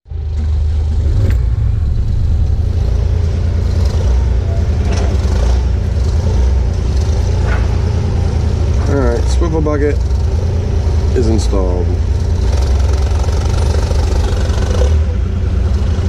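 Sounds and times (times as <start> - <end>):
excavator diesel engine running: 0.1 - 16.0.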